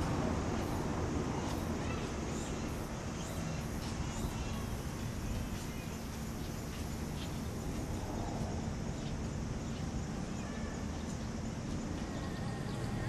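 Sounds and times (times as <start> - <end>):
low outdoor rumble: 2.1 - 13.0.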